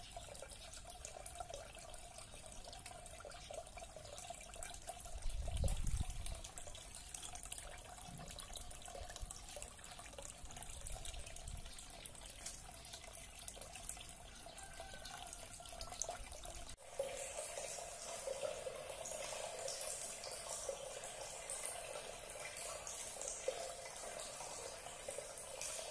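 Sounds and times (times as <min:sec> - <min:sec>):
water splashing into fish tank: 0:00.0 - 0:25.9.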